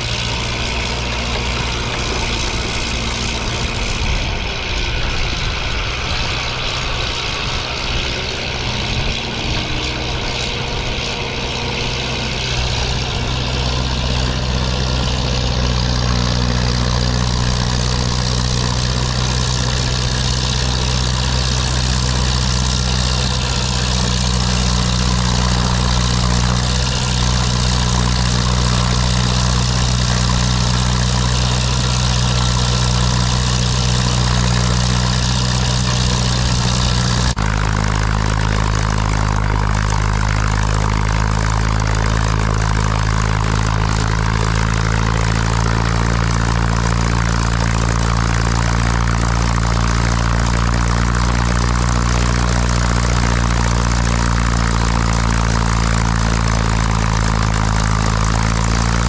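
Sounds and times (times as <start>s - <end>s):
snowblower rushing: 0.0s - 59.0s
tractor engine running: 0.0s - 59.0s.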